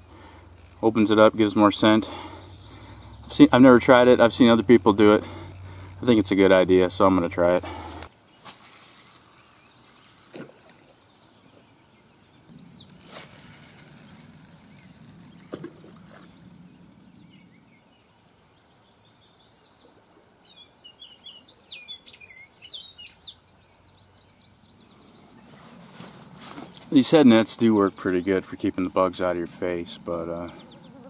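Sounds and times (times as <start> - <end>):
birds chirping and singing: 0.0 - 8.5, 11.0 - 13.2, 13.8 - 31.0.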